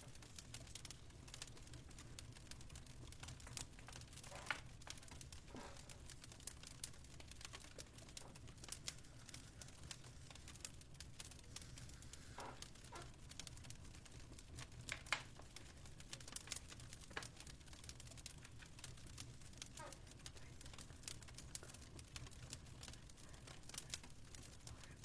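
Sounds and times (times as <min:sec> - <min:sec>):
fire crackling: 0:00.0 - 0:25.0.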